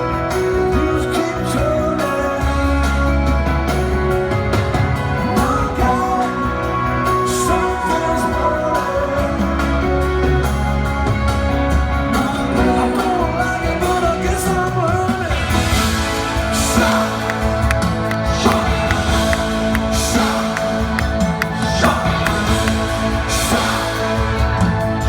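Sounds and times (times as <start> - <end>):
person singing lead vocal: 0.0 - 4.2, 5.1 - 10.9, 12.0 - 25.0
live rock band playing: 0.0 - 25.0.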